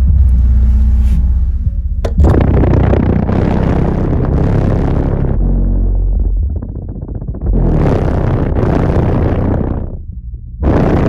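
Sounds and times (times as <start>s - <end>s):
deep bass from subwoofer: 0.0s - 11.0s.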